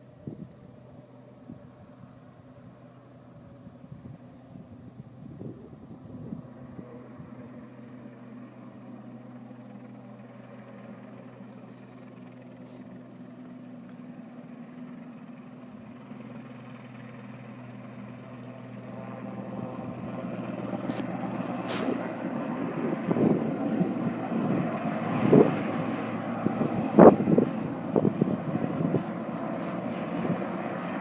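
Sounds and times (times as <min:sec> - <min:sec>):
helicopter rotor and engine hum: 0:00.0 - 0:31.0.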